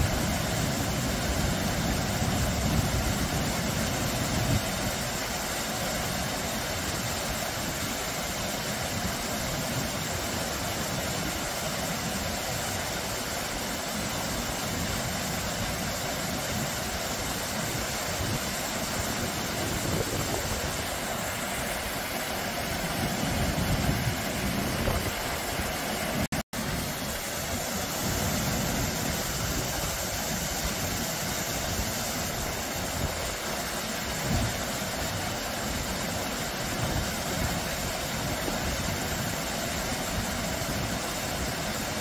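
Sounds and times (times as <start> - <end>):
waterfall rushing splash: 0.0 - 42.0.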